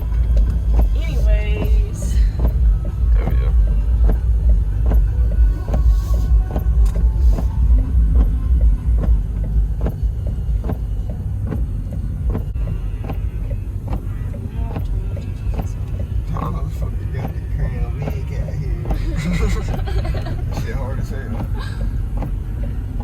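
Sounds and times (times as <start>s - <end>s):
truck engine rumble from cab: 0.0s - 23.0s.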